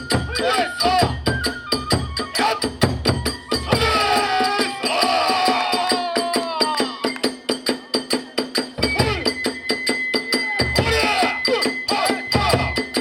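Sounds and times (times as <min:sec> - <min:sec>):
bamboo flute melody: 0:00.0 - 0:13.0
drum beating: 0:00.0 - 0:13.0
small hand cymbals: 0:00.0 - 0:13.0.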